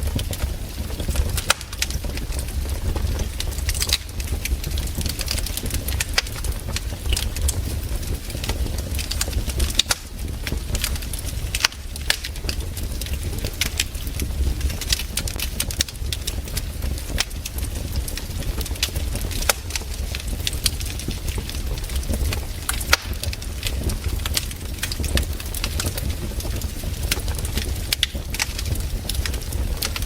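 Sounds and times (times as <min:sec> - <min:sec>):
campfire pops and snaps: 0:00.0 - 0:30.0
fire low rumble: 0:00.0 - 0:30.0.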